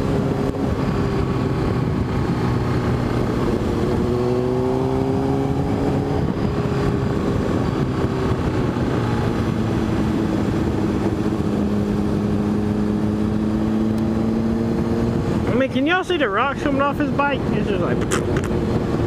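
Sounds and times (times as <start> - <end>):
motorcycle engine cruising: 0.0 - 19.0
wind and road noise: 0.0 - 19.0.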